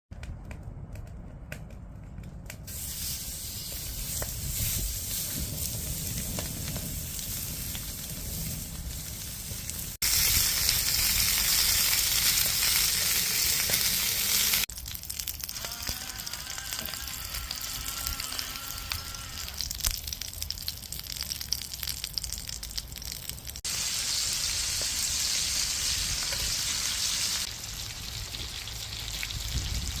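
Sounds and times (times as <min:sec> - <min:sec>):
meat sizzling in a pan: 0:02.7 - 0:30.0.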